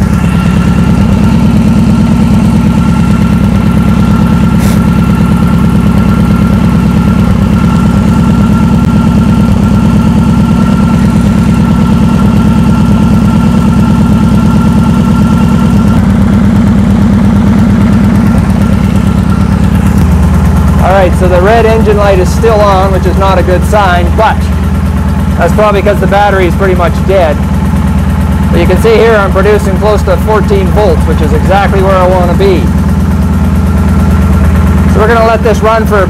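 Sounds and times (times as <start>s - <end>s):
motorcycle engine idling: 0.0s - 36.0s.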